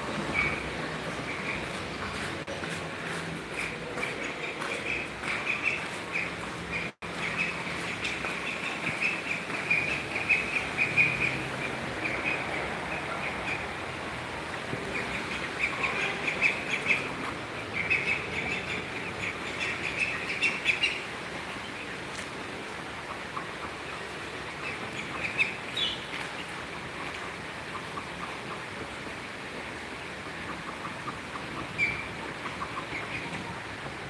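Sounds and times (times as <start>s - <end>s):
young ducks peeping: 0.0s - 34.0s.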